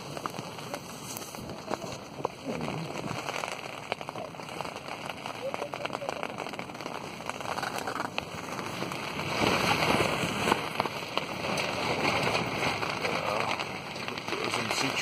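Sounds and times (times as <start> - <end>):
rain beating on tent: 0.0 - 15.0.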